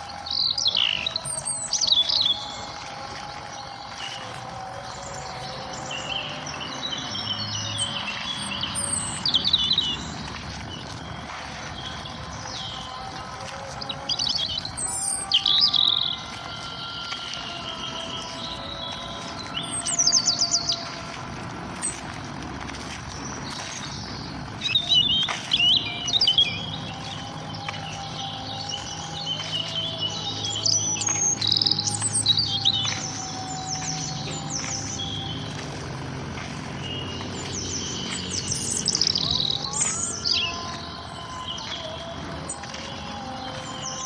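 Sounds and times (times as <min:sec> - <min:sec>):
faint steady bird calls: 0:00.0 - 0:44.0
songbirds chirping and trilling: 0:00.0 - 0:44.0.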